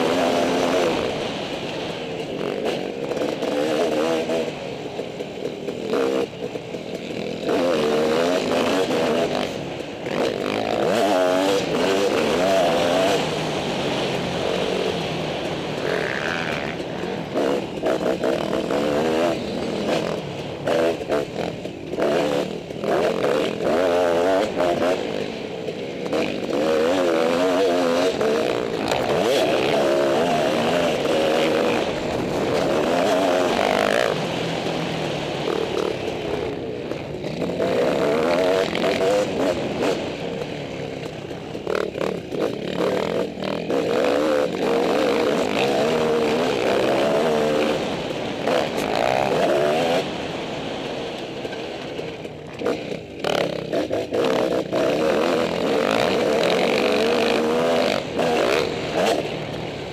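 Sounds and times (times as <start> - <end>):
dirt bike engine revving: 0.0 - 50.7, 52.5 - 59.9.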